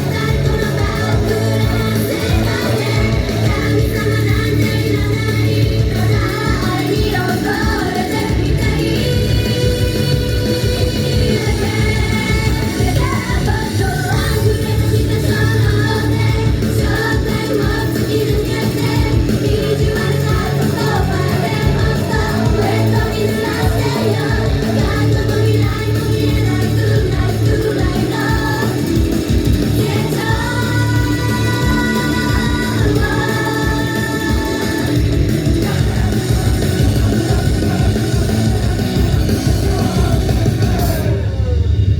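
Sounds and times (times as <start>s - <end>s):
women singing: 0.0s - 41.2s
heavy bass beat: 0.0s - 41.6s
loud rock music: 0.0s - 41.9s
pop song through loudspeakers: 0.0s - 41.9s.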